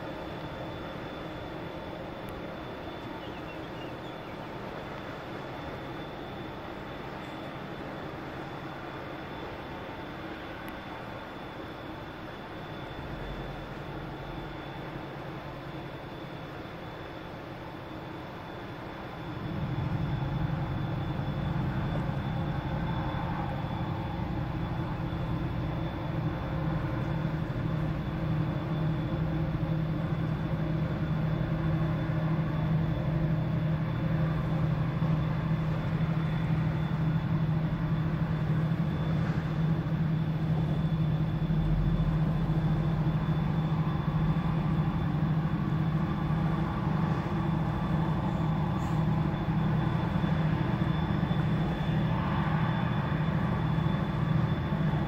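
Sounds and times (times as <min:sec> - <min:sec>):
bridge drive machinery humming: 0:00.0 - 0:55.0.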